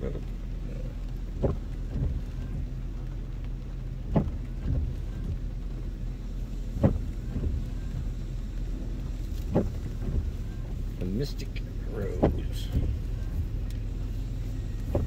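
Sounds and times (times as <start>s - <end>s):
car engine idling: 0.0s - 15.0s
windshield wipers thumping: 0.0s - 15.0s.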